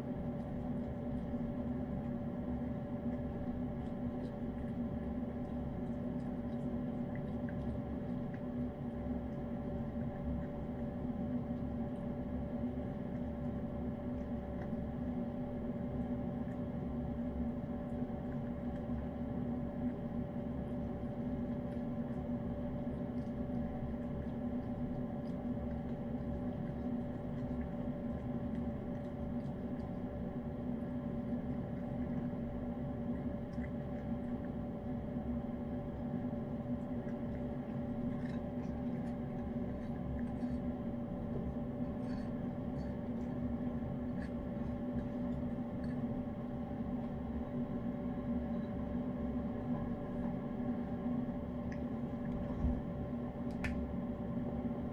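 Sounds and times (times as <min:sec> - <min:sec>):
cat licking and eating: 0:00.0 - 0:54.9
electric fan humming: 0:00.0 - 0:54.9.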